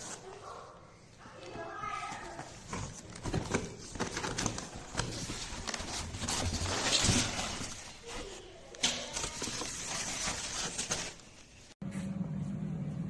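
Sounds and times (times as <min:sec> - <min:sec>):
objects clattering and rustling: 0:01.3 - 0:11.8.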